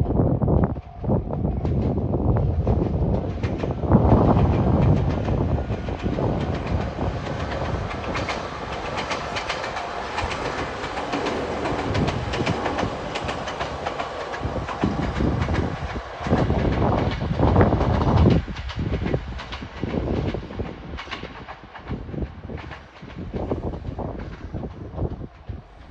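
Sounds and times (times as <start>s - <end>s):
low train rumble: 0.0s - 25.9s
train wheels clicking over rail joints: 0.0s - 25.9s.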